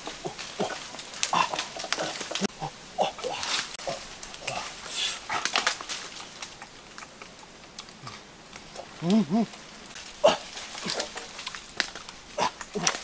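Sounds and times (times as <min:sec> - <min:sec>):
branches creaking and snapping: 0:00.0 - 0:13.0
leaves rustling: 0:00.0 - 0:13.0.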